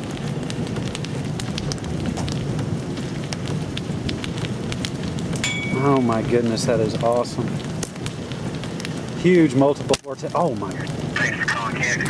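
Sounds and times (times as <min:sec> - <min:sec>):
raindrops ticking: 0:00.0 - 0:12.0
wind rumbling on microphone: 0:00.0 - 0:12.0.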